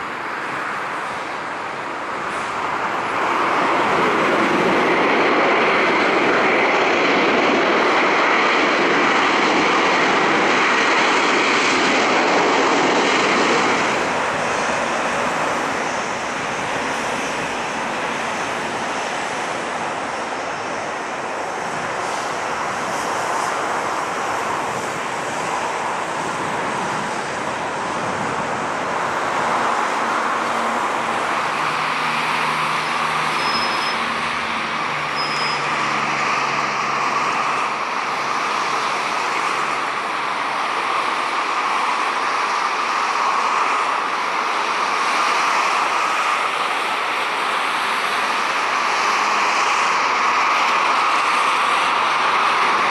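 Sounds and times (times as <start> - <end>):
jet engines running: 0.0 - 52.9.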